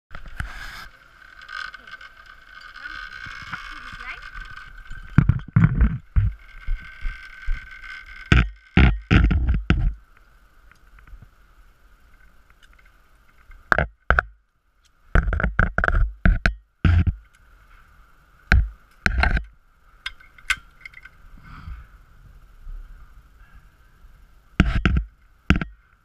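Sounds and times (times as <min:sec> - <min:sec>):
faint high whine: 0:00.1 - 0:26.0.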